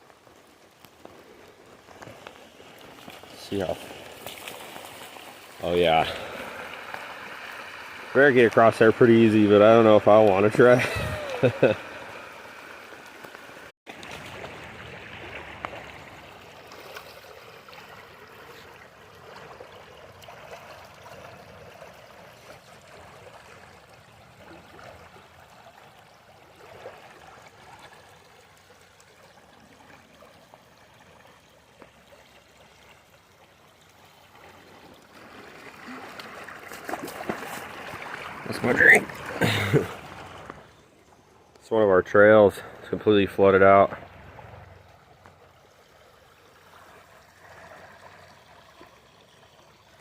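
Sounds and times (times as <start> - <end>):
floodwater rushing and trickling: 0.0 - 50.0.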